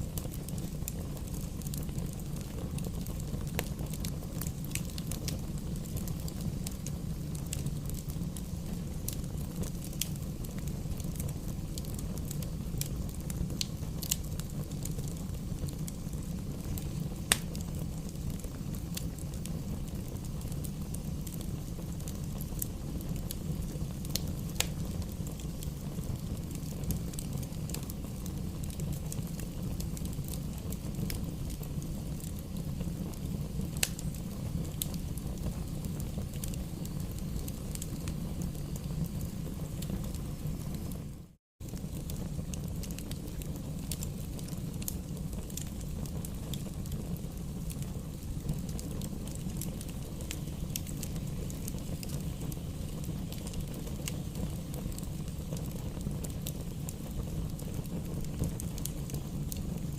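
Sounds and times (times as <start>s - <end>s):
bonfire flames rushing: 0.0s - 59.9s
burning wood crackling and popping: 0.0s - 59.9s.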